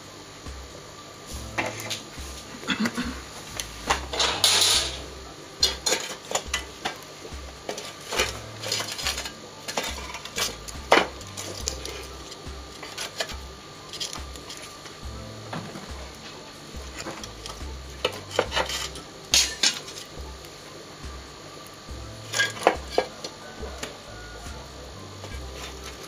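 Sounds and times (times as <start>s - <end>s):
firewood crackling: 0.0s - 26.0s
frying pan scraping on metal grate: 1.3s - 20.2s, 22.2s - 24.6s, 25.2s - 26.0s.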